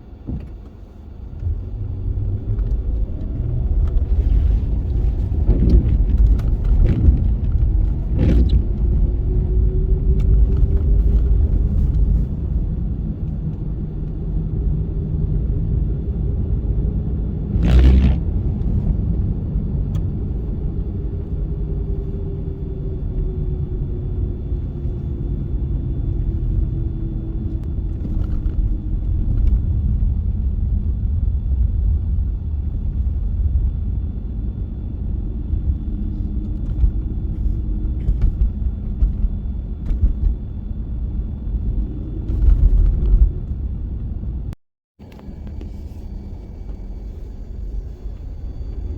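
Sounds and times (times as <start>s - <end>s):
road and engine rumble: 0.0s - 48.9s.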